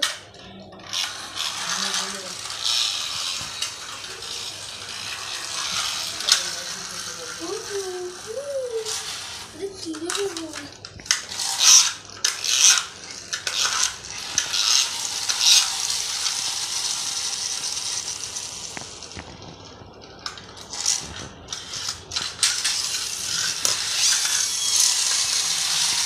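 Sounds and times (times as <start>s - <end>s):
toy cars rattling on tile floor: 0.0s - 26.0s.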